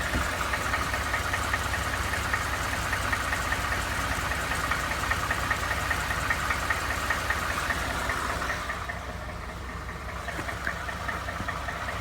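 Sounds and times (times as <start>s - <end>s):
engine knocking: 0.0s - 12.0s
truck engine running: 0.0s - 12.0s.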